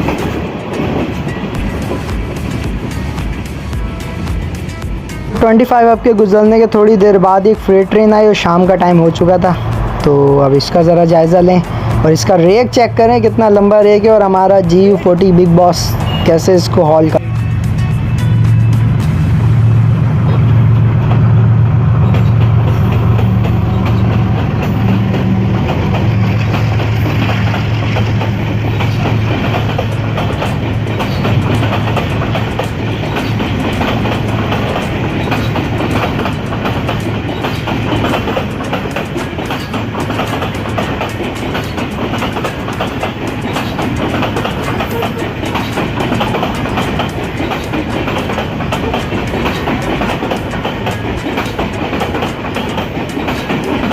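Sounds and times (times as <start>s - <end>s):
train wagons clattering over rail joints: 0.0s - 17.2s, 20.1s - 53.9s
diesel locomotive engine droning: 0.0s - 53.9s.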